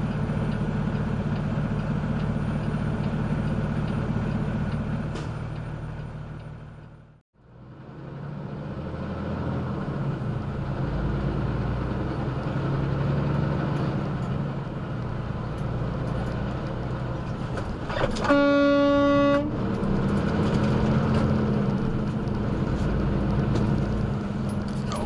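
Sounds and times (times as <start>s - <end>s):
road noise: 0.0s - 25.0s
truck engine running: 0.0s - 25.0s.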